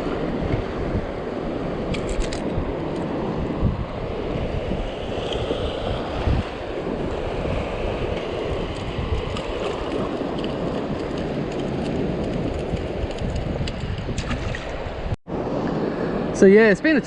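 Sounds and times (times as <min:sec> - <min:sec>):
tidal water rushing over sand: 0:00.0 - 0:17.0
wind buffeting microphone: 0:00.0 - 0:17.0.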